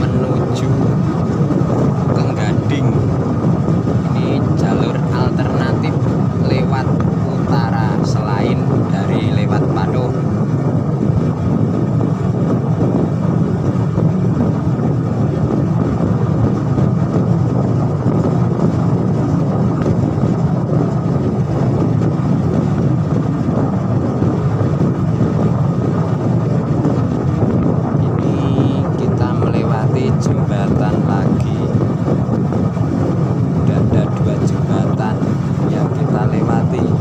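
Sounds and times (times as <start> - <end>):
road vehicle rumble: 0.0 - 37.0
wind buffeting microphone: 0.0 - 37.0.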